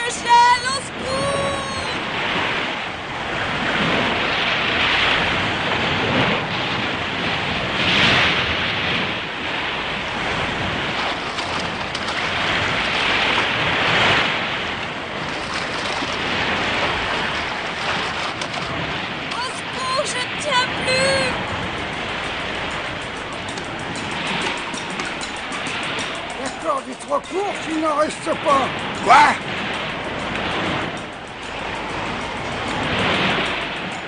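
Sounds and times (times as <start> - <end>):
waves crashing: 0.0 - 34.0.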